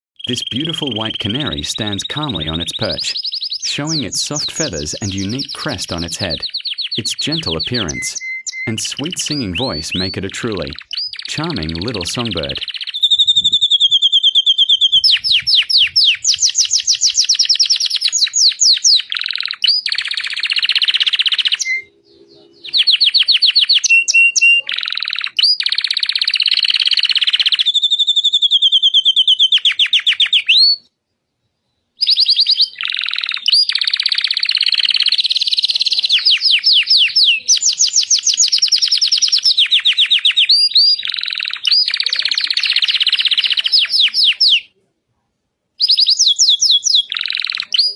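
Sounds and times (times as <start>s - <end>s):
canary singing trills: 0.2s - 30.9s, 31.6s - 44.8s, 45.8s - 47.9s.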